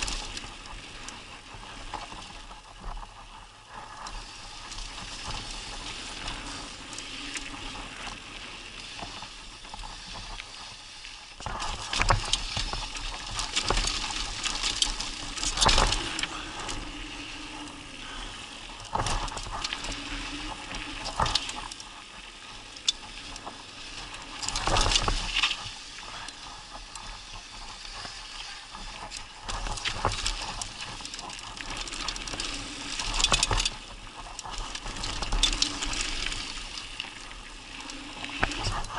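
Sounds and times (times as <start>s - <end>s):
bike tyres rolling on dirt: 0.0s - 38.9s.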